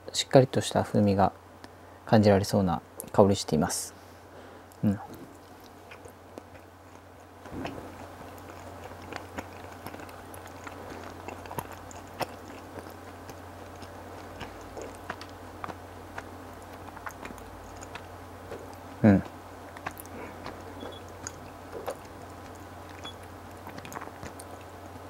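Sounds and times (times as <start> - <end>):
low steady hum: 0.0 - 25.0
wet chewing clicks and smacks: 4.7 - 25.0.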